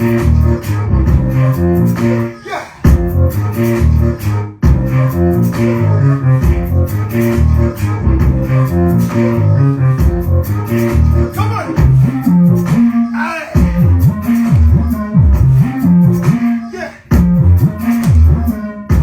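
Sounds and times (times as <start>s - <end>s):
heavy bass line: 0.0s - 19.0s.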